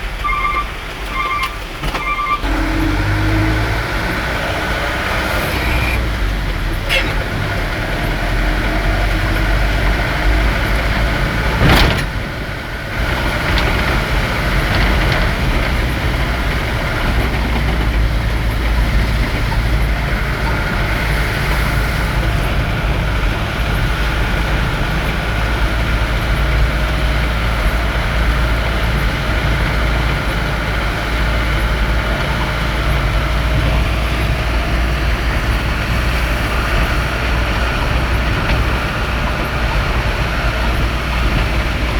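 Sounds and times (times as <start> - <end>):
vehicle engine and road rumble: 0.0 - 41.9.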